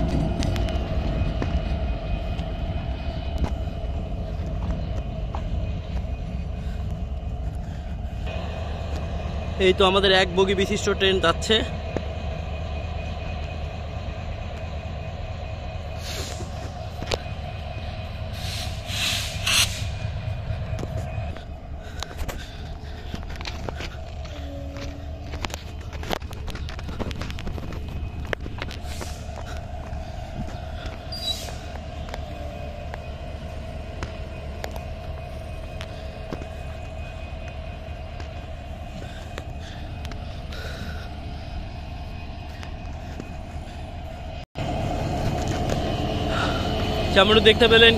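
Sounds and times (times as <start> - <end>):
diesel locomotive engine rumble: 0.0 - 47.9
steady hum: 0.0 - 47.9.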